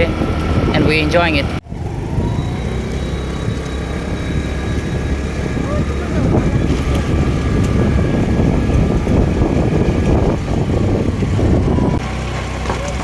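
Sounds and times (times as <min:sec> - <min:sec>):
road noise: 0:00.0 - 0:13.0
scooter engine: 0:00.0 - 0:13.0
wind buffeting microphone: 0:00.0 - 0:13.0.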